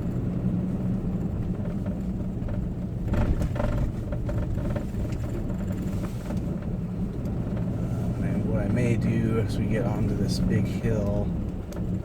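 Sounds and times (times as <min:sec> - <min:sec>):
vehicle engine and tyre noise: 0:00.0 - 0:12.0.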